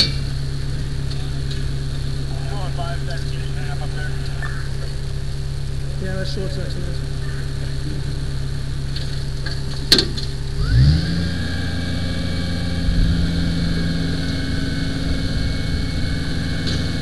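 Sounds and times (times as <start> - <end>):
faint whine: 0.0 - 17.0
fire truck engine: 0.0 - 17.0.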